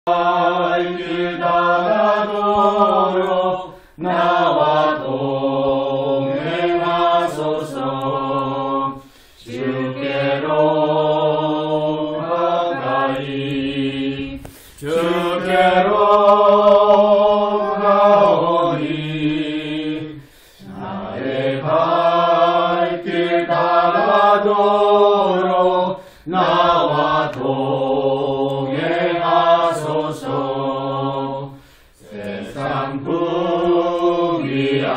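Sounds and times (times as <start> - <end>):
group singing unaccompanied: 0.0 - 34.9.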